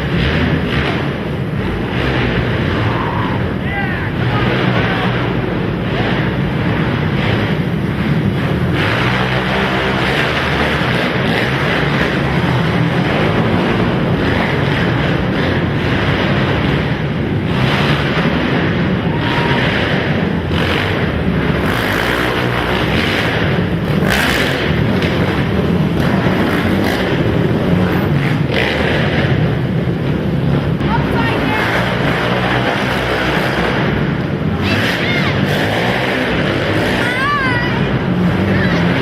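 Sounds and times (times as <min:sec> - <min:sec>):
quad engines revving: 0:00.0 - 0:39.0.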